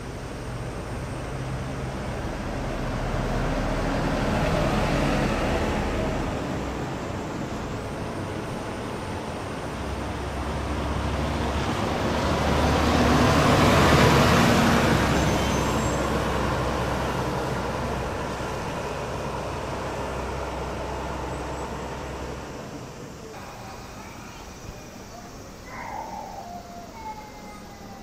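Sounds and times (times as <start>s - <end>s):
low engine hum: 0.0s - 24.1s
bus driving past: 0.0s - 28.0s.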